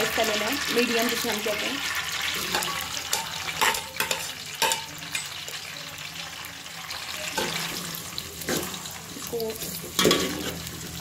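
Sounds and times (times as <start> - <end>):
oil sizzling in a pot: 0.0 - 11.0.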